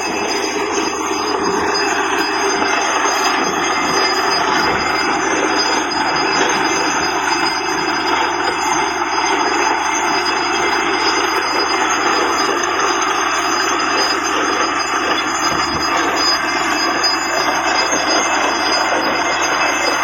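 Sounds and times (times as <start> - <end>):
drilling rig running: 0.0 - 20.0
high whining tones: 0.0 - 20.0.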